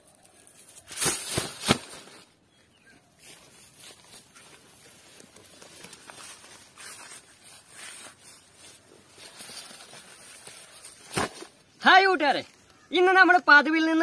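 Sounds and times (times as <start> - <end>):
dry banana sheaths rustling: 0.0 - 12.7.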